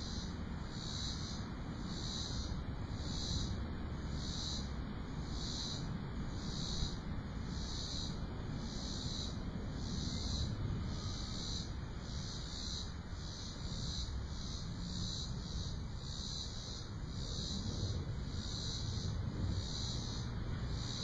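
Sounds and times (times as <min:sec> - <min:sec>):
cicadas singing: 0:00.0 - 0:21.0
cricket chirping: 0:00.0 - 0:21.0
low steady rumble: 0:00.0 - 0:21.0.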